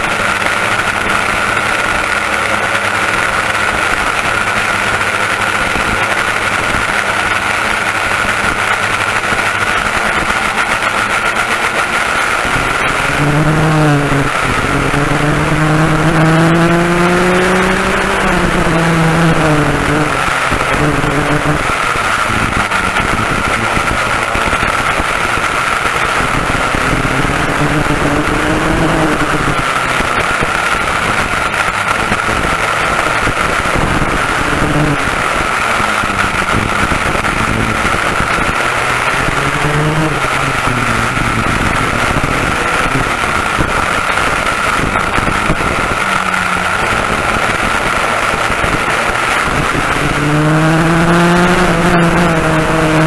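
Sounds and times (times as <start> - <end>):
kart engines racing: 0.0 - 53.0
steady high whine: 0.0 - 53.0.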